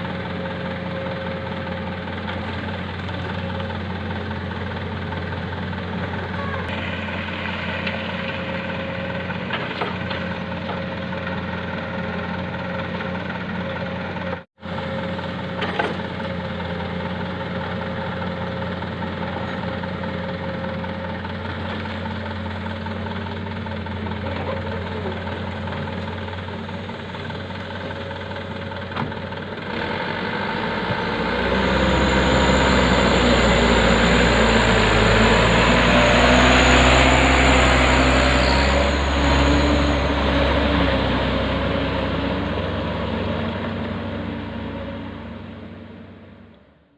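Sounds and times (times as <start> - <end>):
heavy equipment diesel engine running: 0.0 - 46.9.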